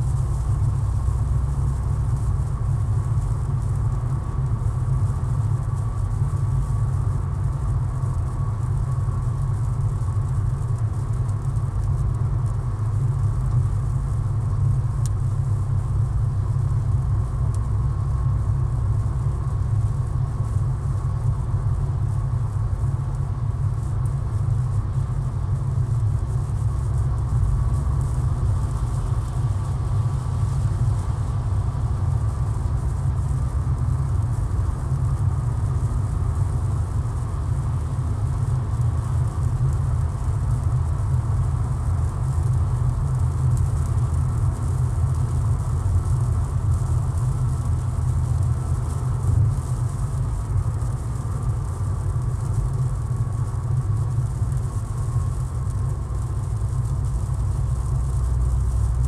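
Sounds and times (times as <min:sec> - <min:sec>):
car road rumble: 0:00.0 - 0:59.0.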